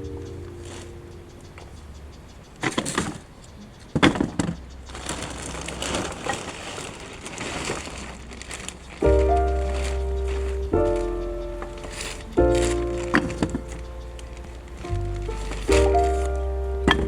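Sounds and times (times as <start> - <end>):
rustling: 0.0 - 17.0
dry wood snapping: 2.5 - 17.0.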